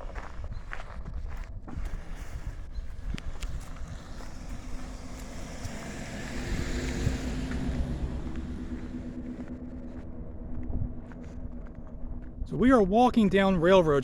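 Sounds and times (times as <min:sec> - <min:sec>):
wind rumble on microphone: 0:00.0 - 0:14.0
car passing: 0:01.7 - 0:13.4.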